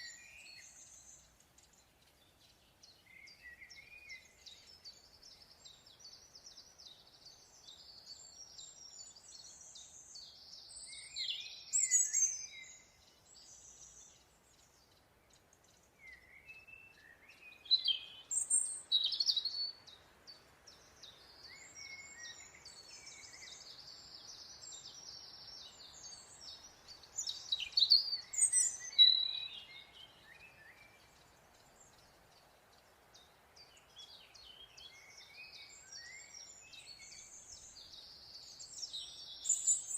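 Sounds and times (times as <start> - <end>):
birds chirping and trilling: 0.0 - 39.9
faint background hiss: 0.0 - 39.9.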